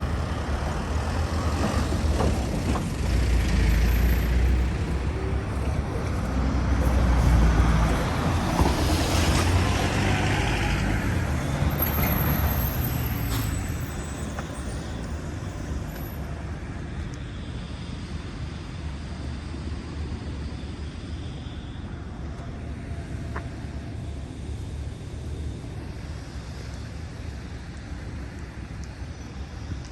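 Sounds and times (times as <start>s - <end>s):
heavy vehicle engine rumble: 0.0s - 29.9s.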